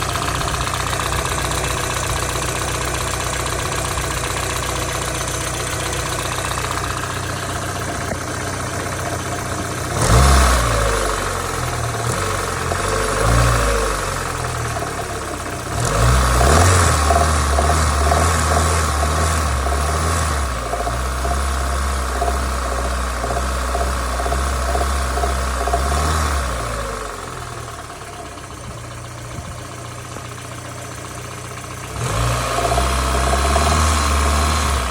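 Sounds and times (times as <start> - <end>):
car engine idling and revving: 0.0 - 34.9
engine knock: 0.0 - 34.9.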